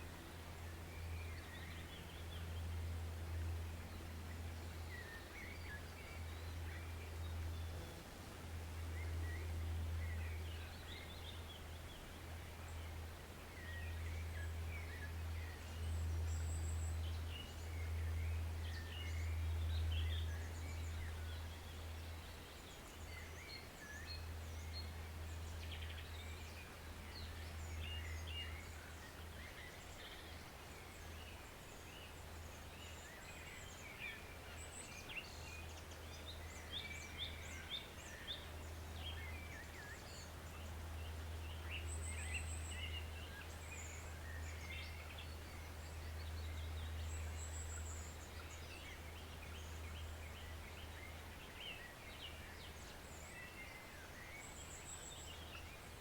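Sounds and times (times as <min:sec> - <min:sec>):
forest stream flowing: 0:00.0 - 0:56.0
small birds chirping and singing: 0:08.9 - 0:56.0.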